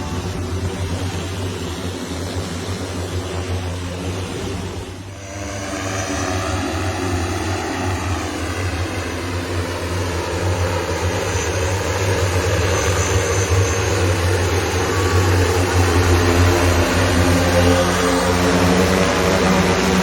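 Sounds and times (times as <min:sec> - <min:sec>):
multicopter propellers humming: 0:00.0 - 0:20.0.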